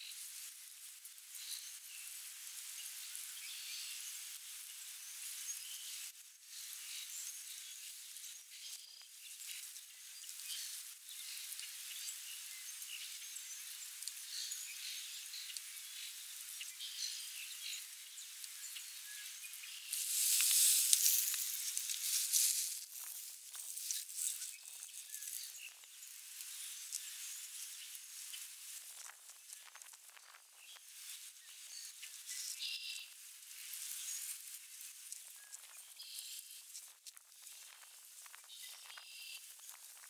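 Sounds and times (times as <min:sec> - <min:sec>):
steady outdoor hiss: 0:00.0 - 0:40.0.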